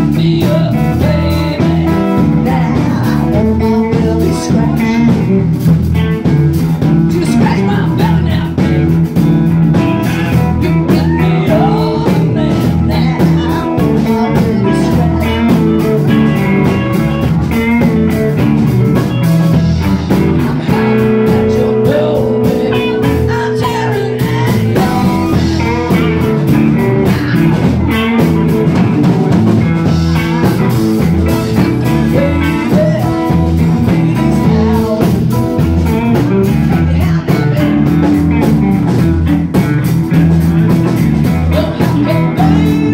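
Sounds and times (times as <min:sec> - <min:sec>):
live blues band playing: 0:00.0 - 0:42.9.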